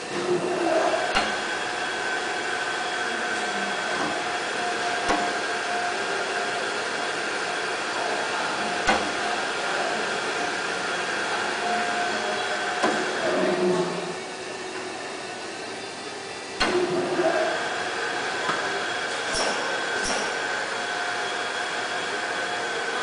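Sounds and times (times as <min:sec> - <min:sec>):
reel motor whining: 0:00.0 - 0:23.0.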